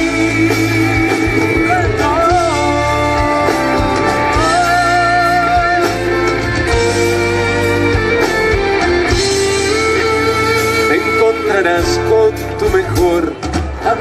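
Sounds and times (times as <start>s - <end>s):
melody line with vibrato: 0.0s - 13.0s
guitar: 0.0s - 14.0s
live band playing ballad: 0.0s - 14.0s.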